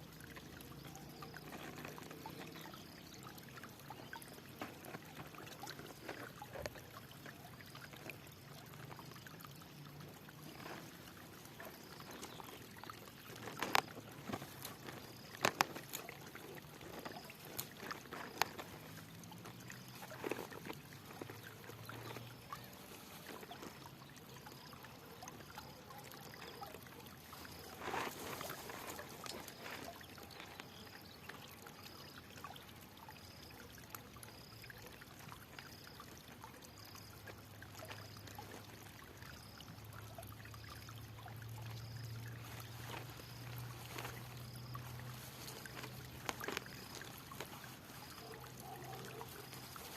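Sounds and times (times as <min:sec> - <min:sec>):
small splashes and drips: 0:00.0 - 0:49.9
water flowing and trickling: 0:00.0 - 0:49.9.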